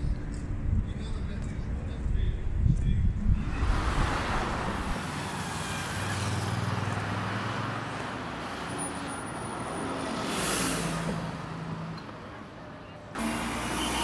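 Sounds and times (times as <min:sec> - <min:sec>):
steady traffic rumble: 0:00.0 - 0:14.0
cars and buses passing: 0:02.6 - 0:14.0.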